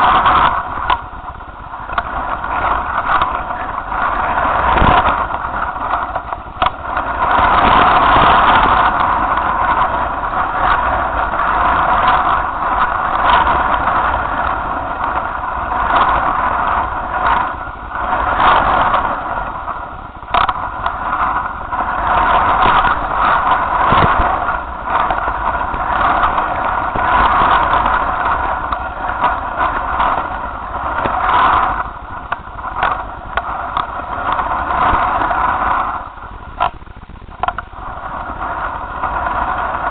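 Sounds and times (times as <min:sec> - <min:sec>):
low rumble: 0:00.0 - 0:39.9
mid-pitched drone: 0:00.0 - 0:39.9
wind buffeting microphone: 0:00.0 - 0:39.9.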